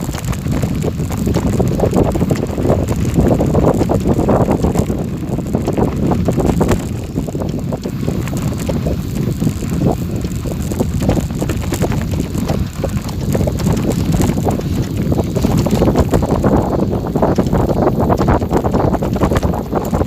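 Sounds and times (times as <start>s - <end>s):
crunch of gravel underfoot: 0.0s - 20.0s
wind buffeting microphone: 0.0s - 20.0s.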